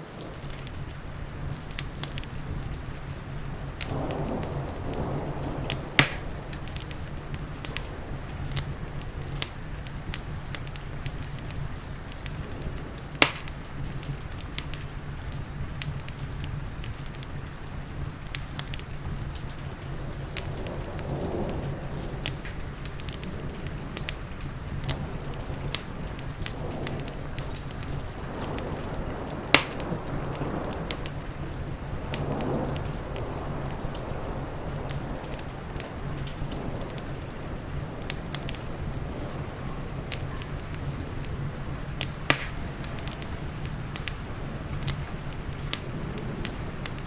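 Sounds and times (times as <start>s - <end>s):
steady hiss of rain: 0.0s - 47.0s
wood fire crackling and popping: 0.0s - 47.0s.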